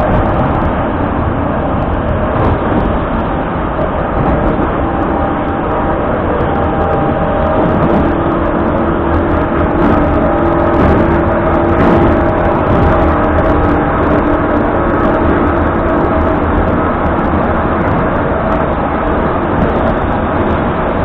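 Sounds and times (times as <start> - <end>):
steady hum: 0.0 - 21.0
train wheels rumbling on rails: 0.0 - 21.0.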